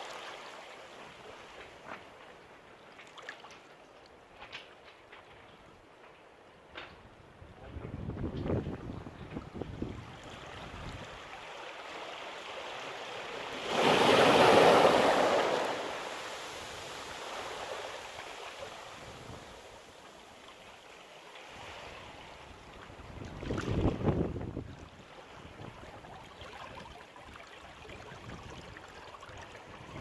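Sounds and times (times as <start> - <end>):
sea waves breaking on shore: 0.0 - 3.7, 8.6 - 30.0.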